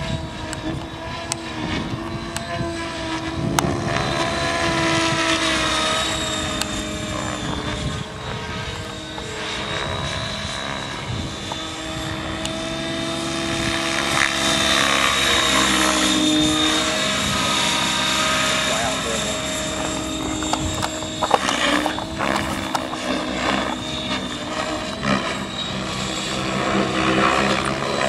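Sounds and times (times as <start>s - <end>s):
model helicopter motor whine: 0.0s - 28.0s.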